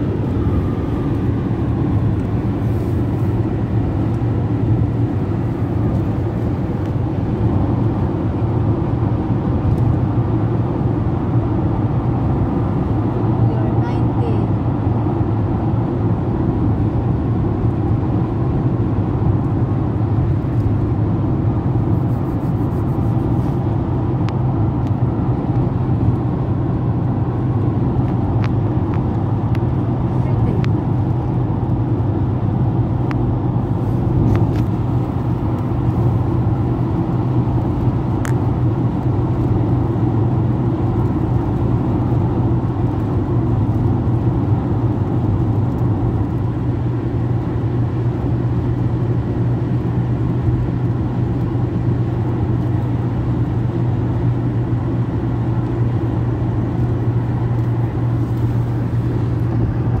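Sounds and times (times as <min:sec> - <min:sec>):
car cabin road and engine drone: 0:00.0 - 1:00.0.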